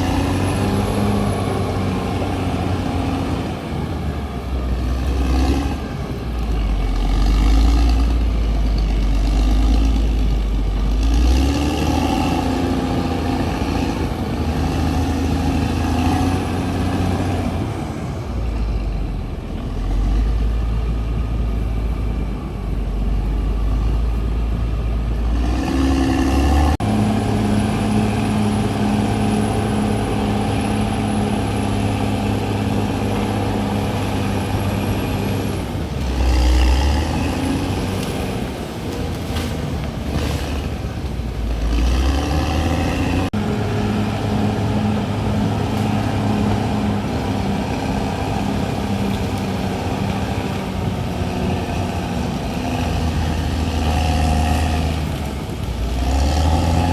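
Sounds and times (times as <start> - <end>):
bulldozer diesel engine rumbling: 0.0 - 56.9.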